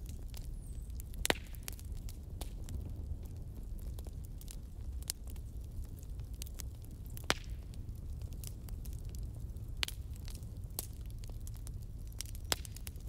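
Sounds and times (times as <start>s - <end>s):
bonfire low rumble: 0.0s - 13.0s
burning wood popping and snapping: 0.0s - 13.0s.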